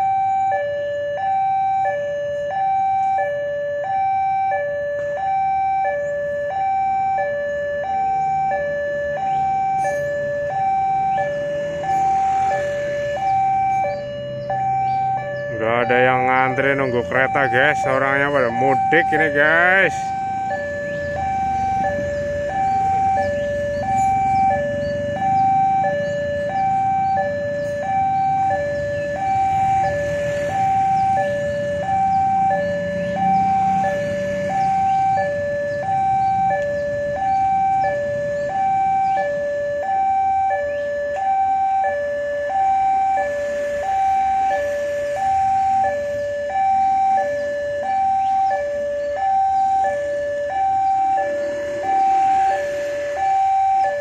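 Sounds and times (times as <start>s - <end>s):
motorcycle engines passing: 0.0s - 54.0s
two-tone level crossing alarm: 0.0s - 54.0s.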